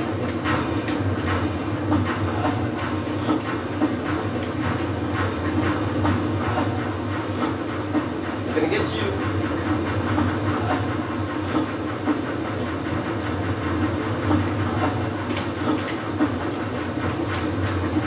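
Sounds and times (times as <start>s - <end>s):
steam train running on tracks: 0.0s - 18.0s.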